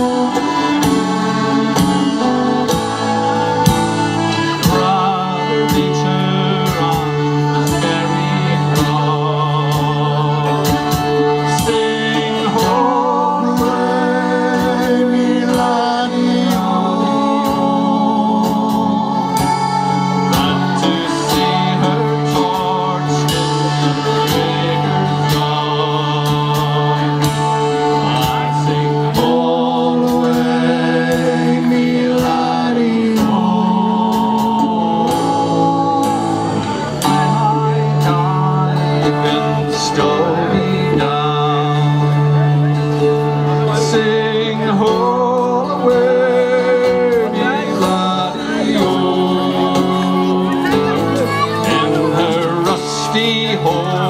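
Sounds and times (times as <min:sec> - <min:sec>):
concertina and accordion band: 0:00.0 - 0:54.0
voices singing along: 0:00.0 - 0:54.0.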